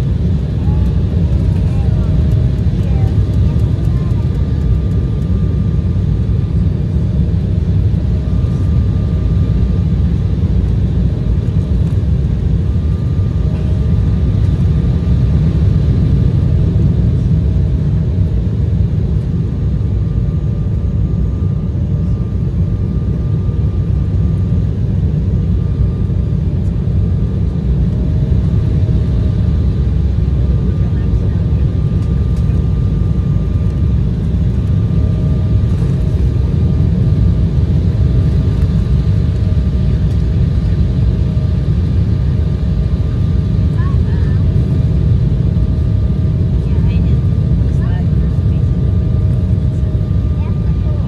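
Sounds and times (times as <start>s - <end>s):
engine and airflow rumble: 0.0s - 51.0s.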